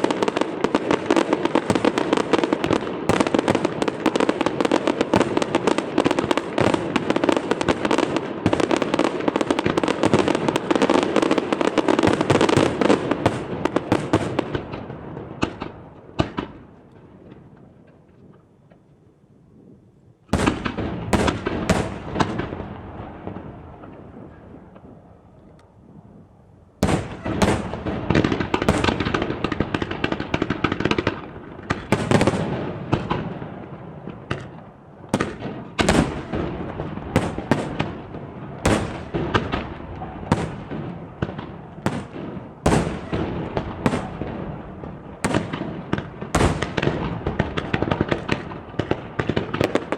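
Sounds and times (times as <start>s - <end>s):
fireworks bursting and crackling: 0.0s - 18.9s, 20.2s - 26.1s, 26.8s - 49.9s.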